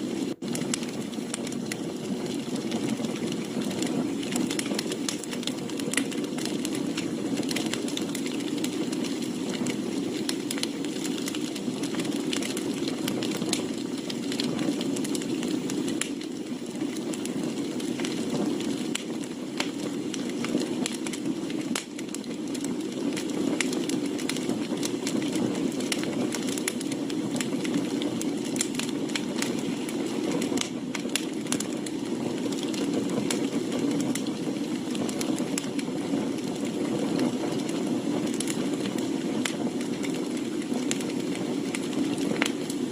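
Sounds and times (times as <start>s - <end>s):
campfire crackling: 0.0s - 42.9s
low rush of flame: 0.0s - 42.9s.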